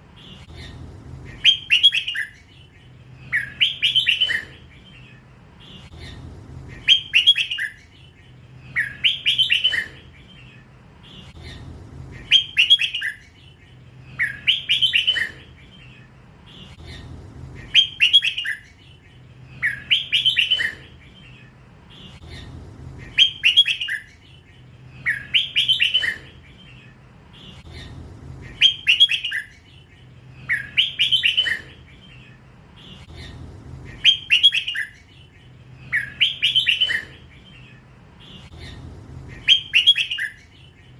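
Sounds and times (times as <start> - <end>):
bird whistling song: 0.2 - 40.9.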